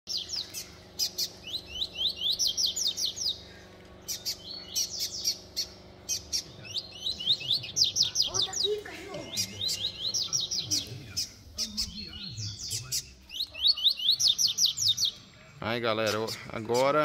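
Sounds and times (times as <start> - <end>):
birds singing: 0.1 - 17.0.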